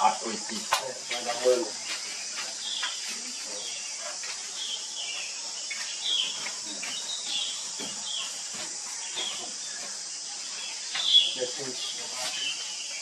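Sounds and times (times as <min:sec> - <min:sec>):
high-pitched insect hiss: 0:00.0 - 0:13.0.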